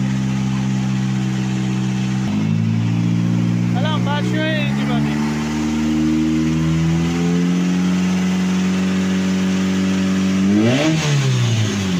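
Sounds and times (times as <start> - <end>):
car engine running and revving: 0.0 - 11.9.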